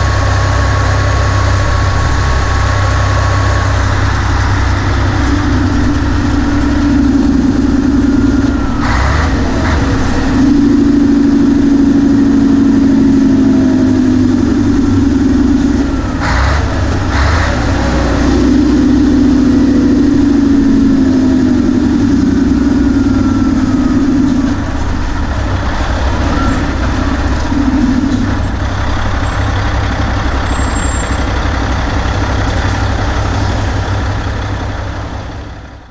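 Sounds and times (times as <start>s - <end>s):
diesel truck engine pulling: 0.0s - 35.9s.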